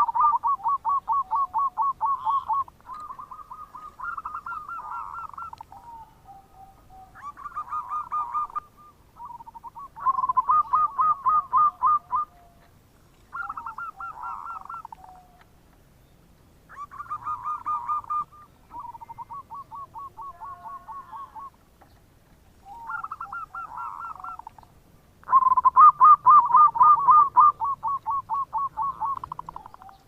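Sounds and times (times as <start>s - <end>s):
dove cooing: 0.0s - 15.5s, 16.7s - 21.6s, 22.6s - 30.0s.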